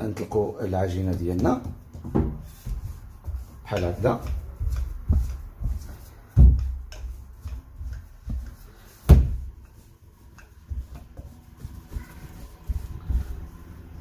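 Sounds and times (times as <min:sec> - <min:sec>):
rolling pin rolling dough: 0:00.0 - 0:14.0.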